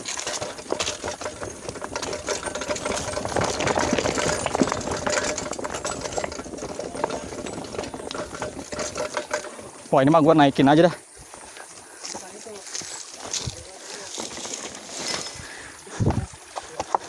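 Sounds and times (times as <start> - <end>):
bike rattling over stones: 0.0 - 17.0.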